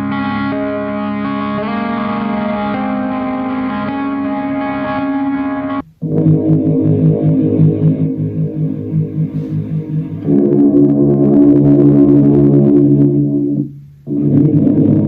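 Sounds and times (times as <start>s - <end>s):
pulsing guitar through effects pedal: 0.0s - 15.0s
sustained guitar chord: 0.0s - 15.0s.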